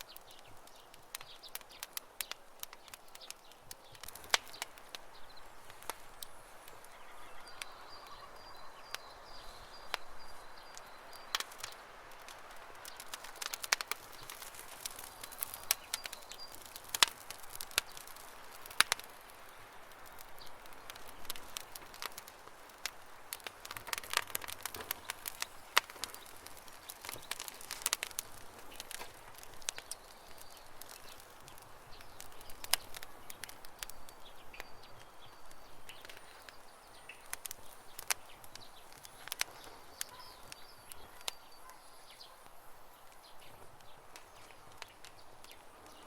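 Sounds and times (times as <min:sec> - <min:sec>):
birds chirping faintly: 0:00.0 - 0:46.0
campfire crackling: 0:00.0 - 0:46.0
sharp fire pops: 0:00.0 - 0:46.0.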